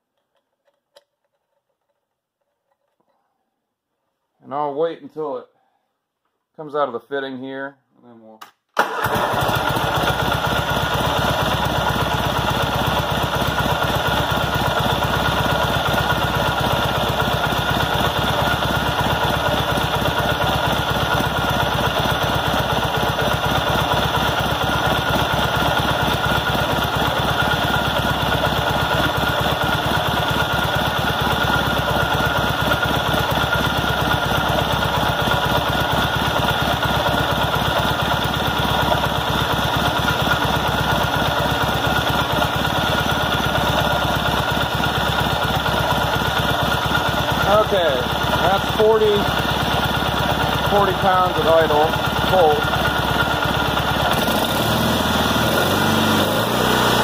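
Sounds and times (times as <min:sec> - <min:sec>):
engine idling: 0:08.8 - 0:57.0.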